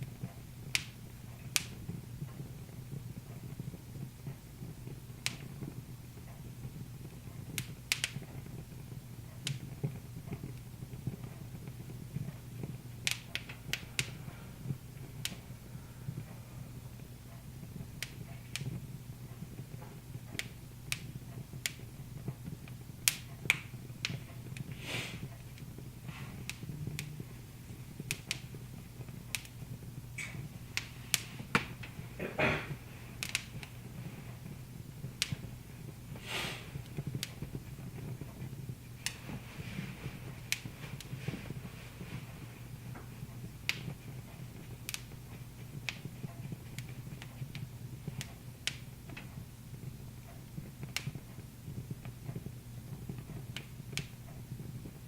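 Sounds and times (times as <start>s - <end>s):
hissing crackles: 0.0s - 55.0s
low steady hum: 0.0s - 55.0s
wood fire crackling and popping: 0.0s - 55.0s.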